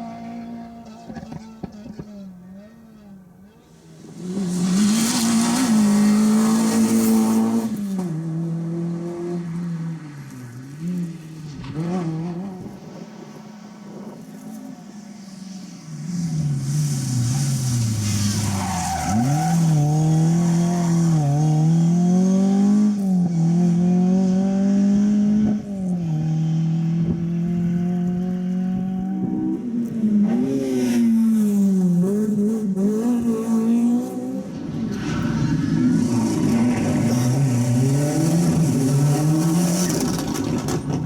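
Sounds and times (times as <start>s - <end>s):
rally car engine revving: 0.0s - 10.1s, 15.9s - 41.0s.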